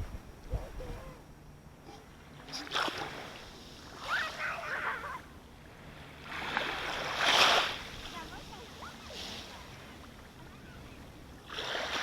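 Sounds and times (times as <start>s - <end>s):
ocean waves washing ashore: 2.0s - 12.0s.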